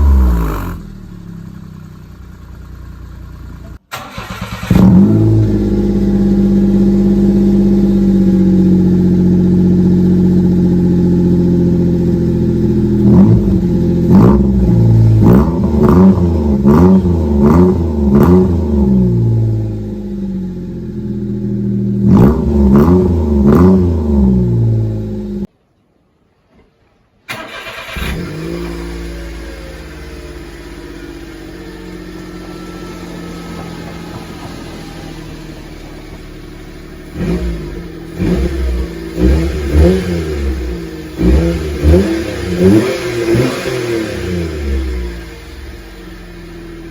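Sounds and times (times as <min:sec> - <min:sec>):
van engine idling and revving: 0:00.0 - 0:25.5, 0:27.3 - 0:46.9.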